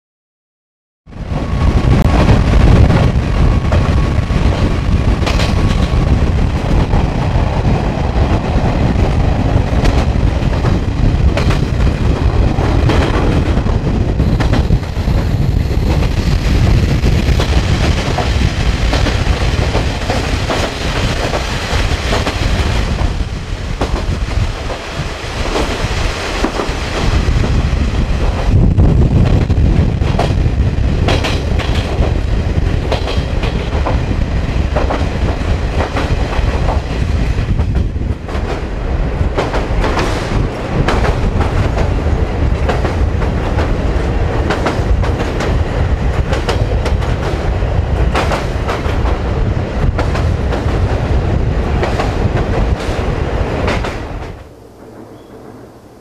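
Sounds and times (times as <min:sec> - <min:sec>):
train wheels rumbling in tunnel: 0:01.1 - 0:56.0.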